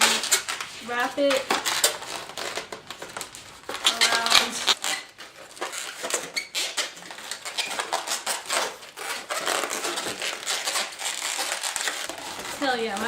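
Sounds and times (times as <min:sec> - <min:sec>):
balloons rubbing and squeaking: 0:00.0 - 0:13.0.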